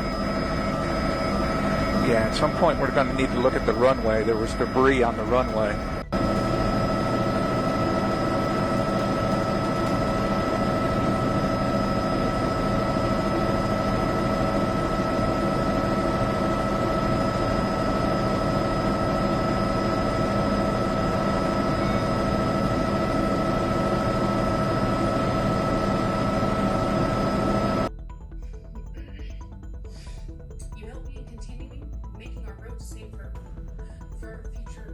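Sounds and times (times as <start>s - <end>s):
aircraft engine drone: 0.0s - 34.8s.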